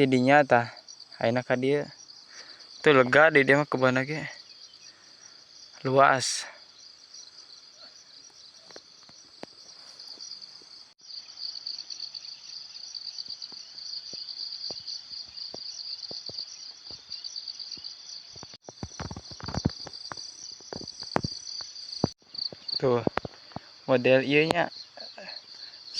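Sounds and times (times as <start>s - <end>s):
insects trilling: 0.0s - 25.9s.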